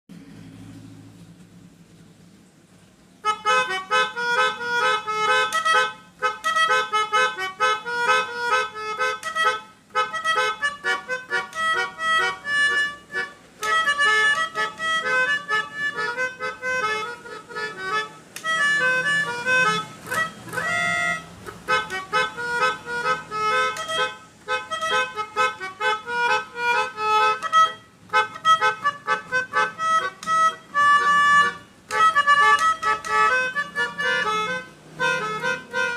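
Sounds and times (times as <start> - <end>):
melodica playing quick tunes: 3.2 - 35.9.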